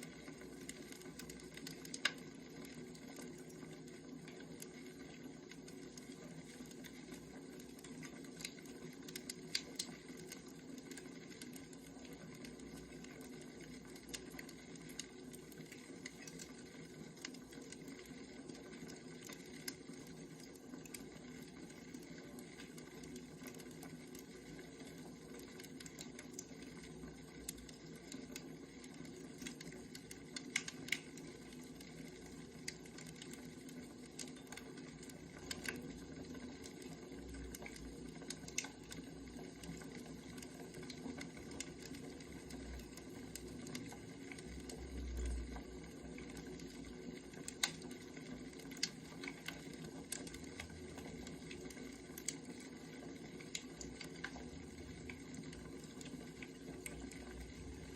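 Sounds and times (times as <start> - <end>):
firewood crackling: 0.0 - 57.9.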